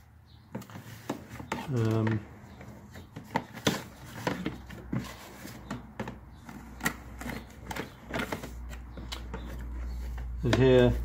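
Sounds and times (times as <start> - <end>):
hands rummaging through boxes: 0.5 - 11.0.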